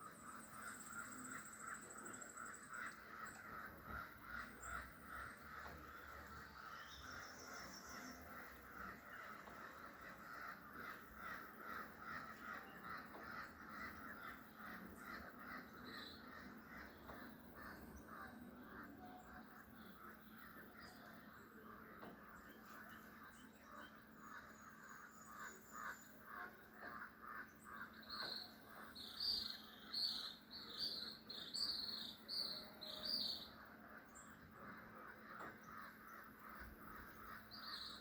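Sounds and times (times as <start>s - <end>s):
birds harsh repeated calls: 0.0s - 38.0s.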